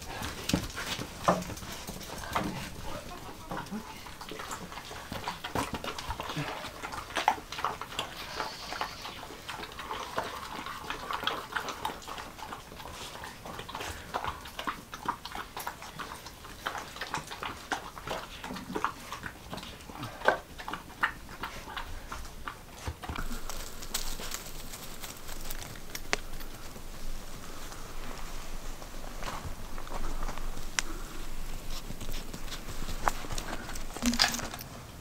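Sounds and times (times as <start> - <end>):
dogs making small sounds: 0.0 - 34.6.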